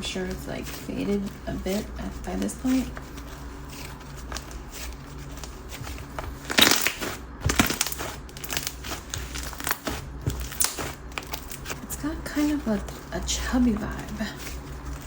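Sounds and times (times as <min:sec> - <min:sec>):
hands squishing slime: 0:00.0 - 0:15.0.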